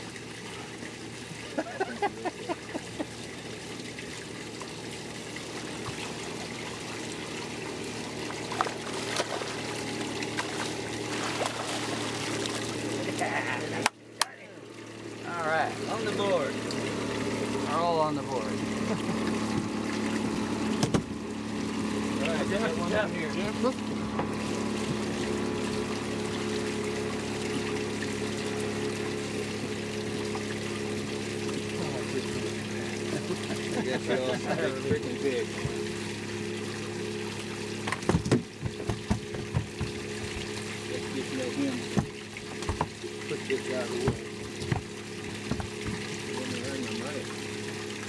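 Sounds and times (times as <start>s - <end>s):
low mechanical hum: 0.0s - 48.0s
water trickling and splashing: 0.0s - 48.0s.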